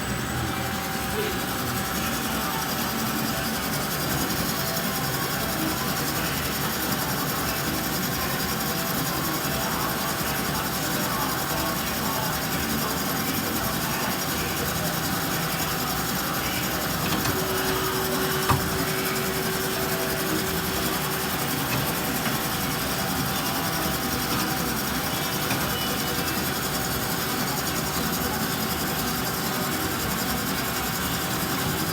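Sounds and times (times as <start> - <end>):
band saw running: 0.0 - 31.9.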